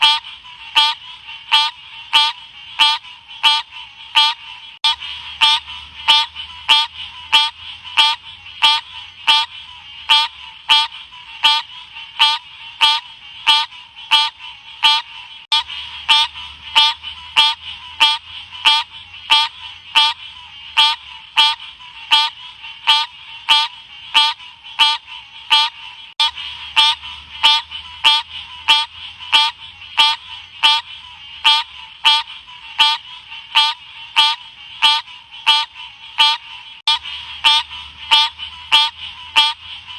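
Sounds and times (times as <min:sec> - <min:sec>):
frog calling: 0:00.0 - 0:39.9.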